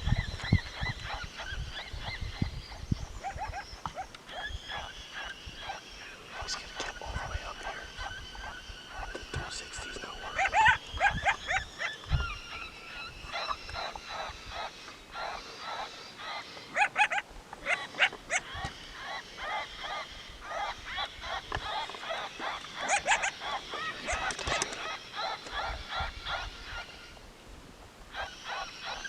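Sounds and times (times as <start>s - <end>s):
coyotes yipping and howling: 0.0s - 27.3s, 28.1s - 29.0s.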